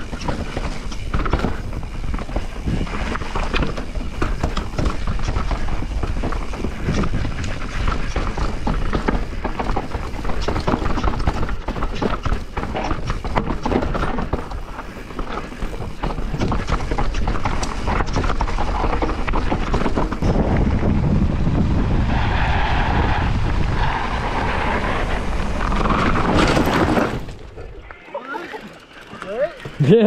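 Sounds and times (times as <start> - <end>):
bike knocks and rattles: 0.0 - 21.6, 25.1 - 27.6
wind buffeting microphone: 0.0 - 27.9
bike tyres rumbling on dirt: 0.0 - 30.0.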